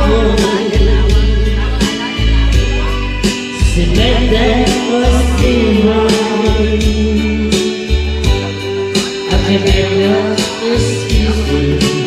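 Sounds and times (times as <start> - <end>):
karaoke backing track: 0.0 - 12.0
man singing into microphone: 0.0 - 12.0.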